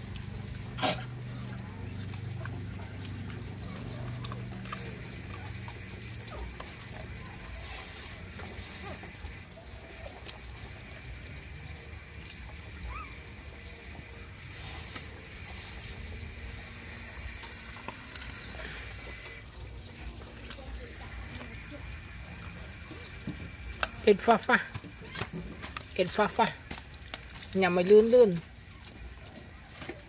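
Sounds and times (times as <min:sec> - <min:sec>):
puppy chewing wet food: 0:00.0 - 0:30.0.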